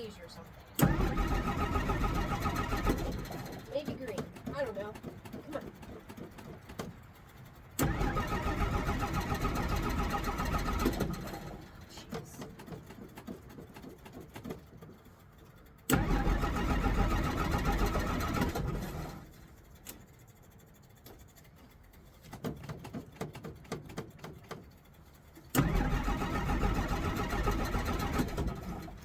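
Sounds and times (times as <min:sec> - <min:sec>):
engine starter cranking: 0:00.7 - 0:29.0.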